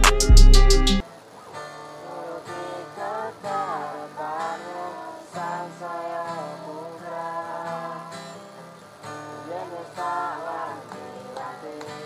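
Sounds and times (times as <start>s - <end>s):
person singing: 0.0s - 8.4s, 9.4s - 12.0s
strummed acoustic guitar: 0.0s - 12.0s.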